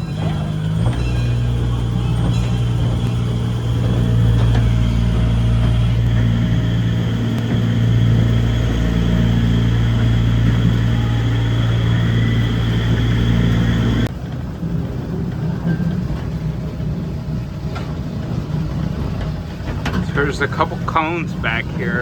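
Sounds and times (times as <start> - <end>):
miniature train engine droning: 0.0 - 22.0.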